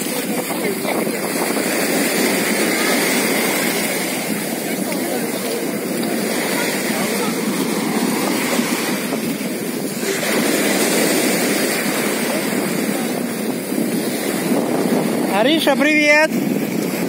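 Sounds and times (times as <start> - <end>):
sea surf breaking on beach: 0.0 - 17.0.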